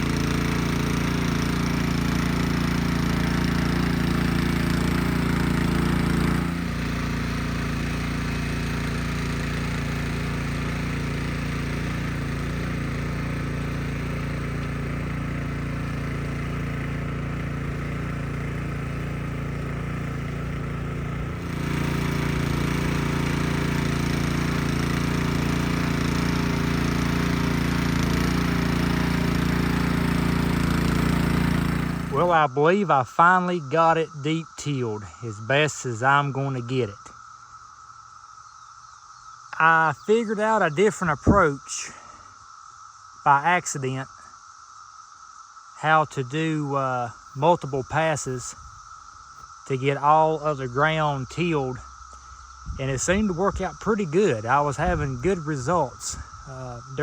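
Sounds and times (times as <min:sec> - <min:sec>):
garden tiller engine running: 0:00.0 - 0:37.8, 0:39.5 - 0:42.4, 0:43.2 - 0:44.3, 0:45.8 - 0:57.0.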